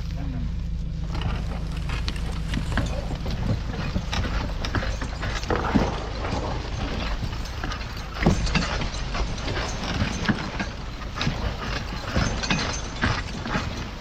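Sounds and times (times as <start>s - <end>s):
horse hooves clopping: 0.0s - 14.0s
horse-drawn rig rattling: 0.0s - 14.0s.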